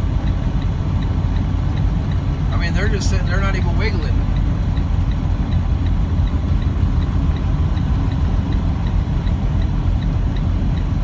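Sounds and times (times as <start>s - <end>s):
diesel truck engine rumbling: 0.0s - 11.0s
light even ticking: 0.0s - 11.0s.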